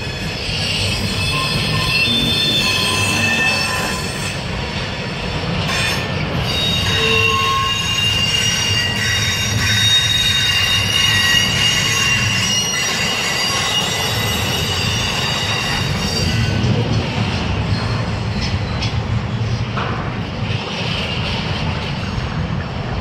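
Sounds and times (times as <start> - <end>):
train wheels squealing: 0.0 - 19.7
freight train rumbling past: 0.0 - 23.0.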